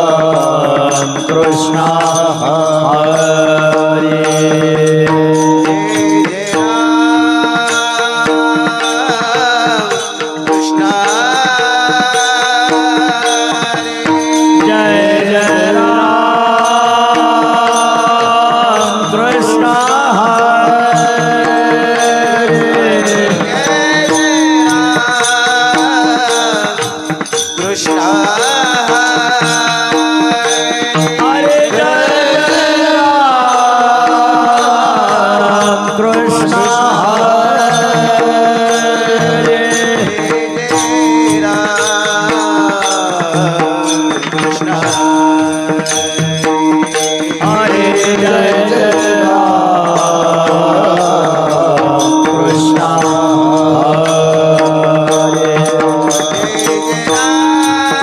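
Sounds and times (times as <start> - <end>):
person singing devotional song: 0.0 - 58.0.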